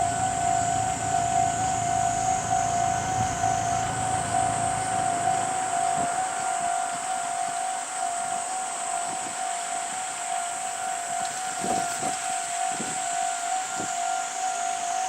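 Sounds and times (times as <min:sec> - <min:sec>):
even rushing hiss: 0:00.0 - 0:14.8
level crossing warning alarm: 0:00.0 - 0:15.0.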